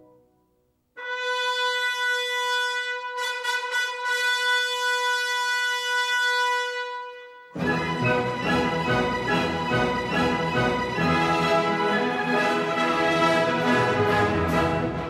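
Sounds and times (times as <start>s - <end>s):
brass instrument long note: 1.0s - 15.0s.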